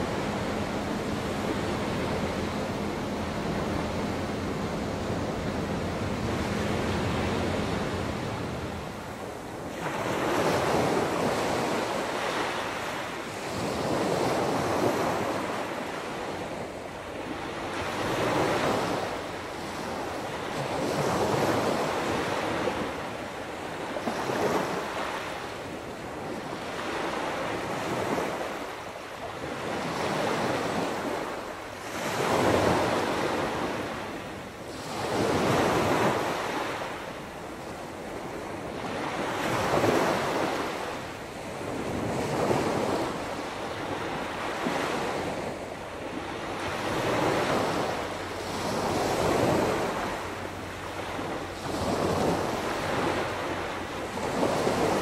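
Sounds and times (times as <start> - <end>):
ocean surf breaking on a beach: 0.0 - 55.0.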